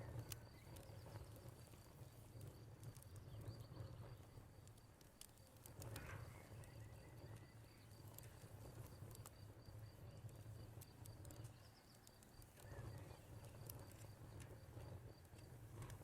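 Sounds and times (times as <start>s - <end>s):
cricket chirping: 0.0s - 16.0s
wood fire crackling and popping: 0.0s - 16.0s.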